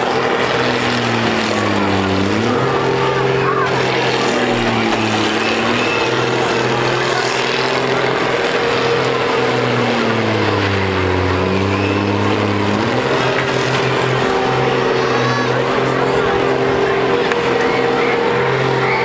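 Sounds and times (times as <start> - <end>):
diesel engines running hard: 0.0 - 19.0.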